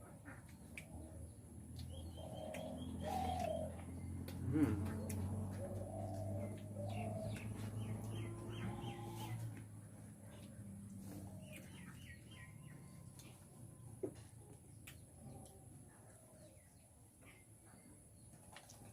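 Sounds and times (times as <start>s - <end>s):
small birds chirping: 0.3s - 18.9s.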